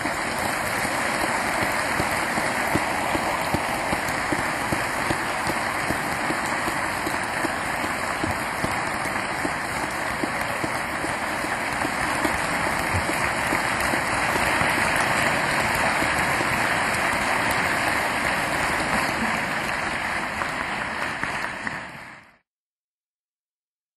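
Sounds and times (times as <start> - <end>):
audience applauding: 0.0 - 22.4.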